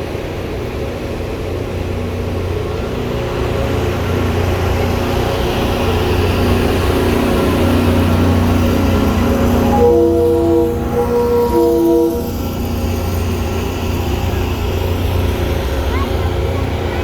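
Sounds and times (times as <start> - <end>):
steam train rumbling: 0.0 - 17.0.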